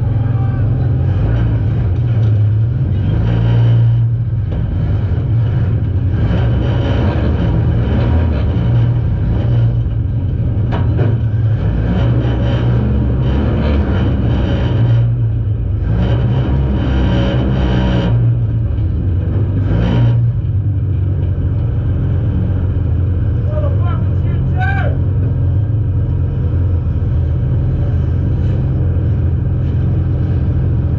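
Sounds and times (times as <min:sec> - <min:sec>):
car engine running loud: 0:00.0 - 0:30.9.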